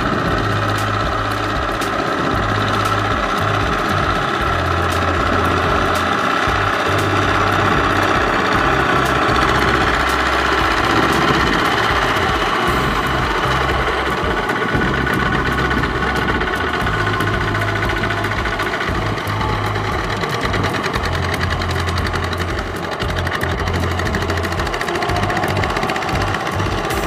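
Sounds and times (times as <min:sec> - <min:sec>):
diesel tractor engines knocking: 0:00.0 - 0:27.0.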